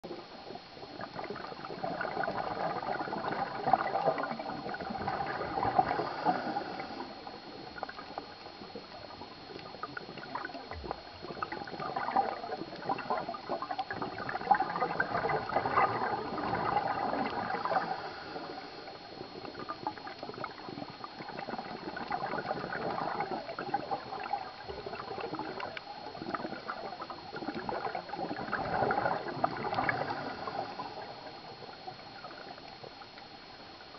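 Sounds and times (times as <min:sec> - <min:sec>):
air bubbles gurgling underwater: 0:00.0 - 0:33.9.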